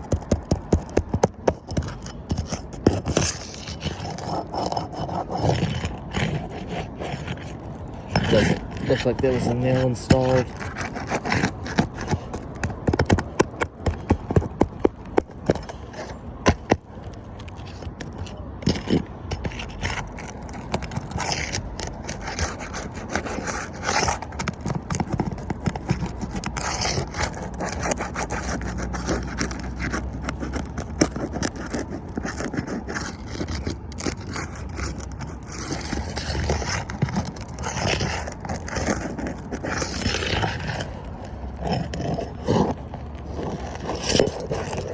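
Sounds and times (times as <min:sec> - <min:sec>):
tool scraping roof shingle: 0:00.0 - 0:44.9.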